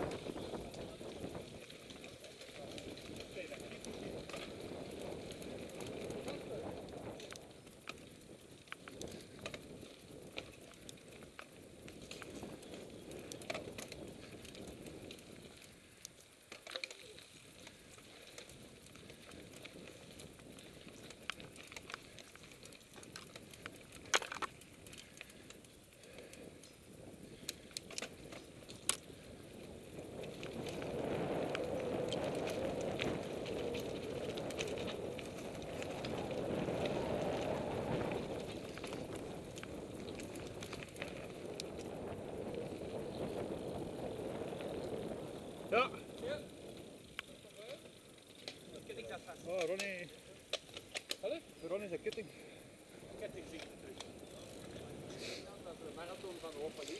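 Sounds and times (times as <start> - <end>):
bike rattling over bumps: 0.0 - 56.9
bike tyres rumbling on dirt trail: 0.0 - 56.9.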